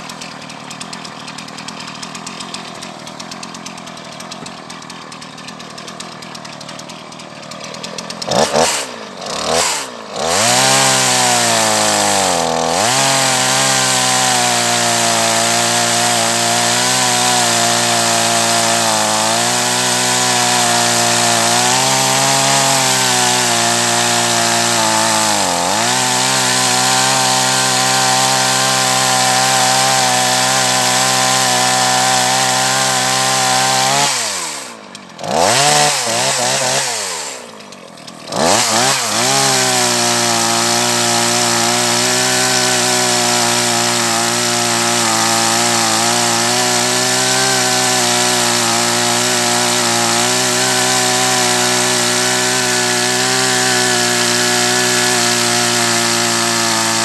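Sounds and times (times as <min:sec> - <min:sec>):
chainsaw cutting log: 0:00.0 - 0:57.0
chainsaw idling and revving: 0:00.0 - 0:57.0.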